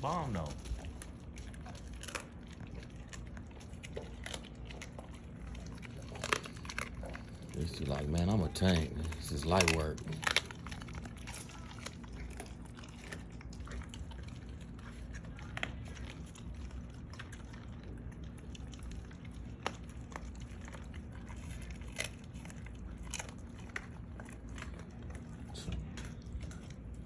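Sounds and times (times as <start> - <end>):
dogs crunching bones: 0.0 - 27.0
low steady rumble: 0.0 - 27.0.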